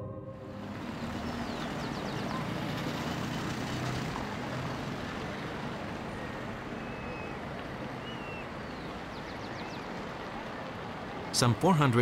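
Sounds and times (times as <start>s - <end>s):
city traffic: 0.0s - 12.0s.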